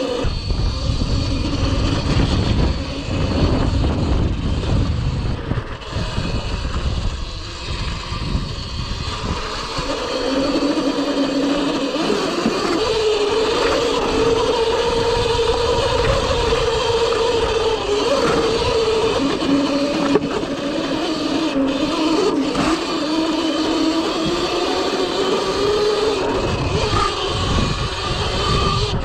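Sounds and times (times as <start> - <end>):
electric motor whine: 0.0 - 29.0
wind buffeting microphone: 0.0 - 29.0.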